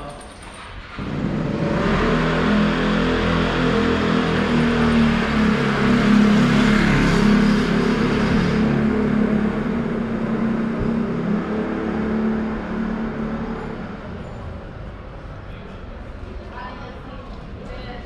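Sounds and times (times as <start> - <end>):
vehicle engine running: 0.9 - 15.4.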